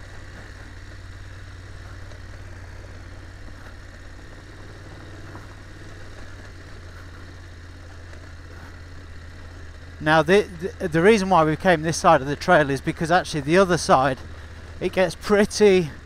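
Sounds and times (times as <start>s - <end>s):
motorcycle engine running steadily: 0.0s - 16.0s.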